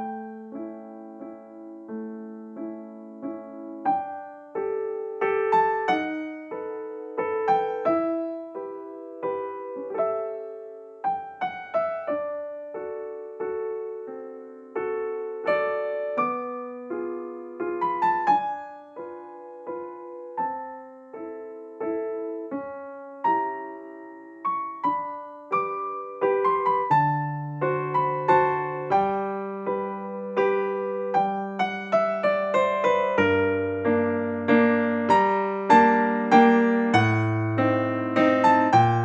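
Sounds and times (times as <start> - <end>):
gentle piano melody: 0.0 - 39.0.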